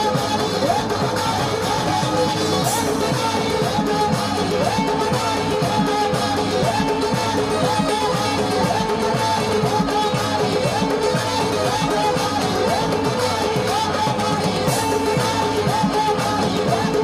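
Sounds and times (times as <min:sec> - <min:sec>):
drum rhythm: 0:00.0 - 0:17.0
harmonium melody: 0:00.0 - 0:17.0.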